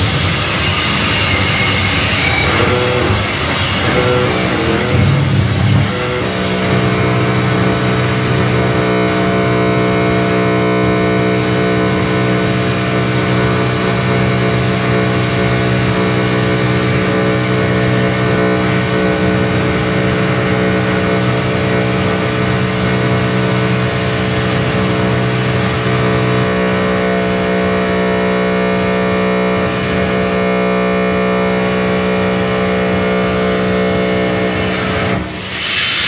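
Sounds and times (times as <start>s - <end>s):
electronic drone: 0.0s - 36.0s.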